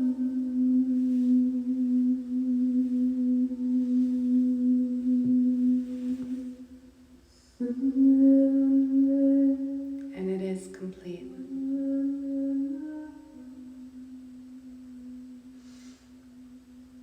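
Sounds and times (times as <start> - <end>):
singing bowl tone: 0.0 - 6.9, 7.6 - 17.0
long held vocal tones: 0.0 - 17.0.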